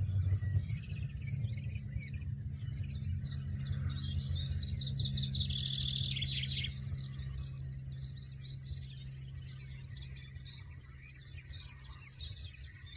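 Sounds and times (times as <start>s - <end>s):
finch singing tinkling twitter: 0.0s - 12.9s.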